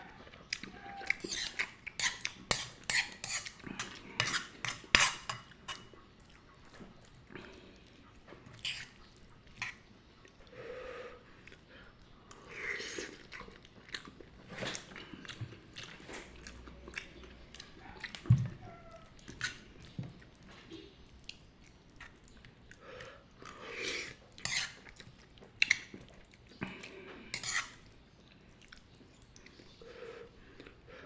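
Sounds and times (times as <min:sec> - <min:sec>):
person chewing noodles: 0:00.0 - 0:31.0.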